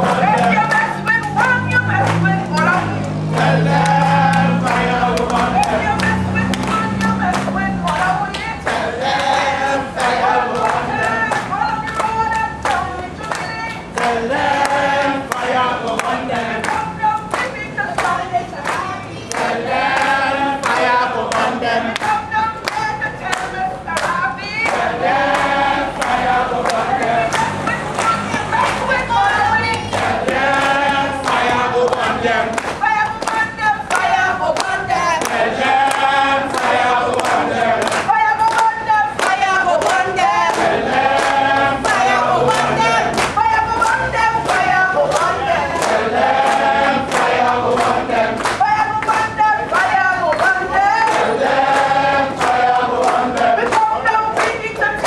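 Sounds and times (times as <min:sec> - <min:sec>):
hands clapping in time: 0:00.0 - 0:09.4, 0:10.0 - 0:55.0
group singing together: 0:00.0 - 0:55.0.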